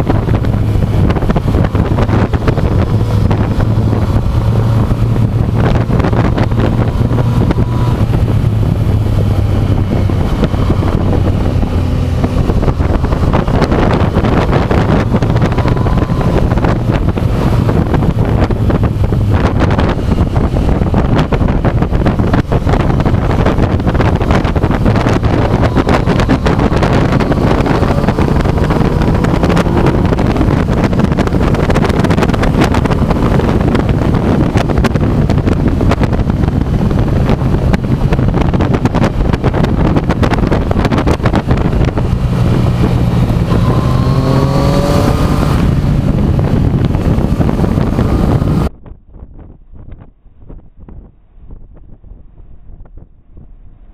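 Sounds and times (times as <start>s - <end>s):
motorcycle engine: 0.0s - 53.9s
wind noise on microphone: 0.0s - 53.9s.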